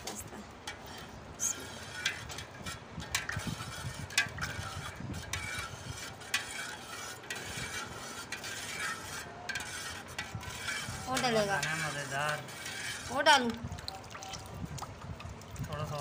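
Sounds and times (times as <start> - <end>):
metal spoon stirring in a pot: 0.0 - 16.0.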